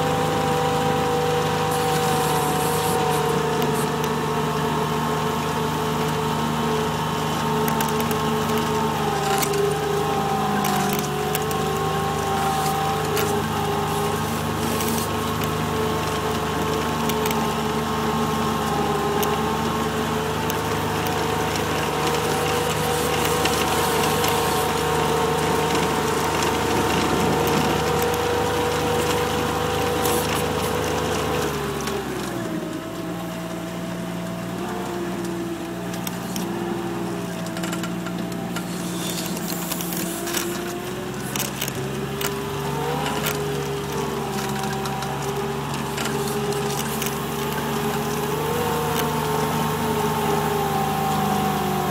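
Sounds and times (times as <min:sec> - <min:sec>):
diesel engine running under load: 0:00.0 - 0:51.9.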